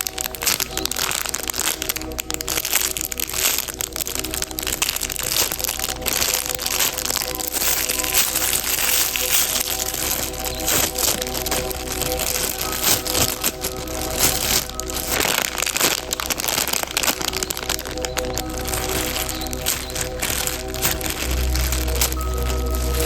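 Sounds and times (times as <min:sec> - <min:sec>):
background music with held notes: 0:00.0 - 0:23.0
squishy object crinkling: 0:00.0 - 0:23.0.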